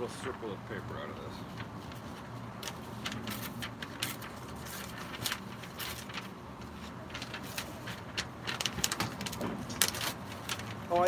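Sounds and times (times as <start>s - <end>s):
low background hum: 0.0s - 11.0s
paper tearing: 1.5s - 11.0s.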